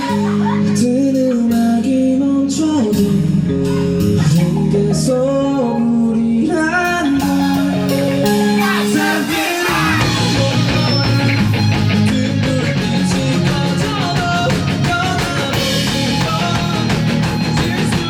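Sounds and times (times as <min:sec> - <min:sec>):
bass guitar: 0:00.0 - 0:18.0
electric guitar: 0:00.0 - 0:18.0
person singing: 0:00.0 - 0:18.0.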